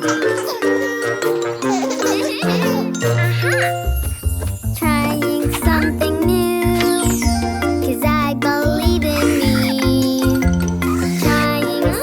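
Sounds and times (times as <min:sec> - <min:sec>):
upbeat cartoon music: 0:00.0 - 0:12.0.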